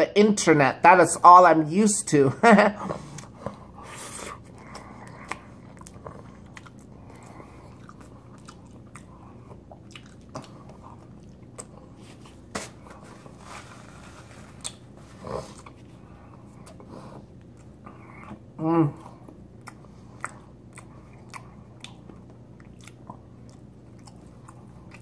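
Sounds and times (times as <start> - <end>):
faint low hum: 0.0 - 25.0
person chewing food: 2.8 - 25.0.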